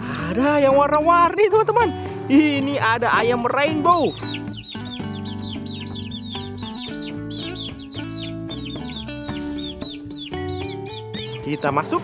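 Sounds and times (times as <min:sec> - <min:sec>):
background music: 0:00.0 - 0:12.0
chicks peeping: 0:00.0 - 0:12.0.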